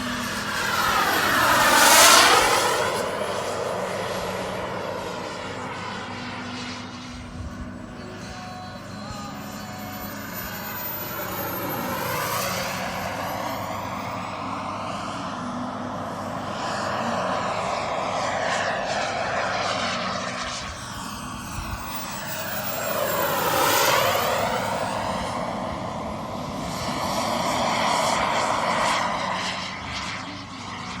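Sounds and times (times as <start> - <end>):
model jet flying past: 0.0 - 31.0.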